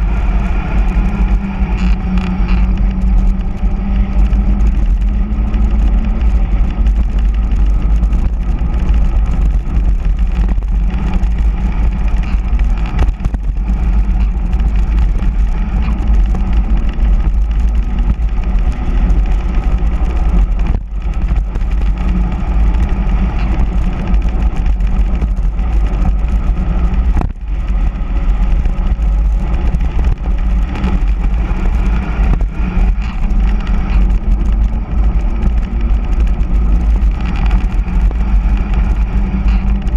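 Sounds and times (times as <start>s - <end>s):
tyres humming on asphalt: 0.0s - 39.9s
wind blasting microphone: 0.0s - 39.9s.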